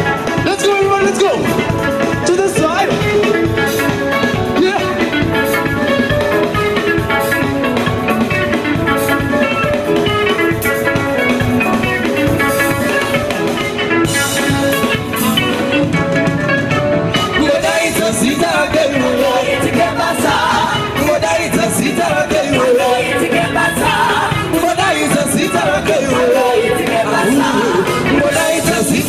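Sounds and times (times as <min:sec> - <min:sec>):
live gospel band music: 0:00.0 - 0:29.0
steady drum beat: 0:00.0 - 0:29.0.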